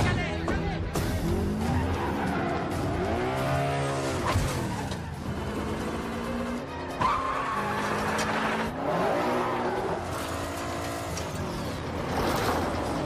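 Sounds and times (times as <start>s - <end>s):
film score music: 0.0s - 13.0s
racing car engines revving: 1.0s - 13.0s
tyres squealing on dirt: 1.3s - 13.0s.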